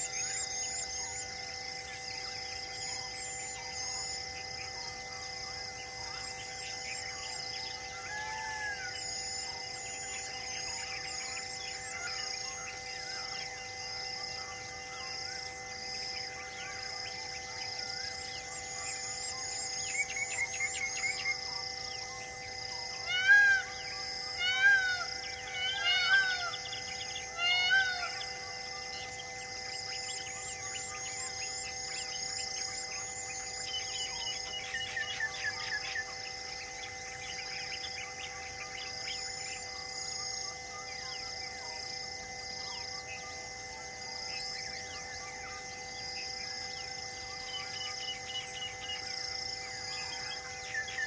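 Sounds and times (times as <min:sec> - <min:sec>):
insect buzz: 0:00.0 - 0:51.0
steady high drone: 0:00.0 - 0:51.0
birds chirping and whistling: 0:02.0 - 0:15.4, 0:16.0 - 0:22.3, 0:22.9 - 0:41.3, 0:44.3 - 0:51.0.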